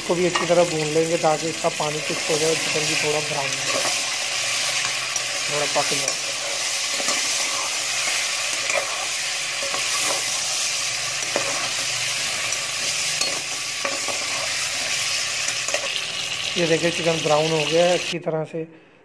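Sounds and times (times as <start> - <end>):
chicken sizzling in oil: 0.0 - 18.2.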